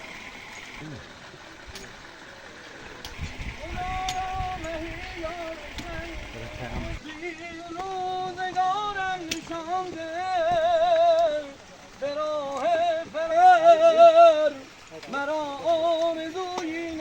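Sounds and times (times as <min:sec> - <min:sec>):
man singing with trills: 0:03.4 - 0:17.0.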